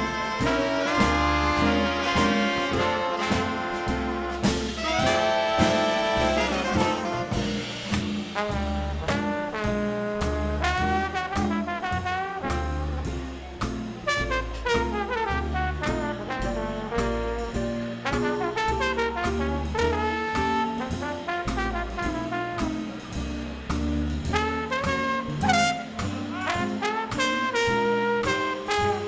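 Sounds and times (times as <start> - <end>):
swing band playing: 0.0 - 29.0.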